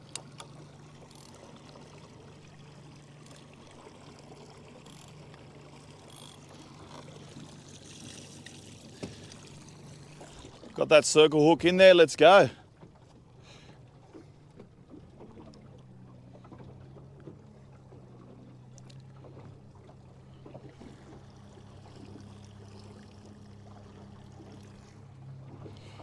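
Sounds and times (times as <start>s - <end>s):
outboard motor humming: 0.0s - 26.0s
water washing along hull: 0.0s - 26.0s.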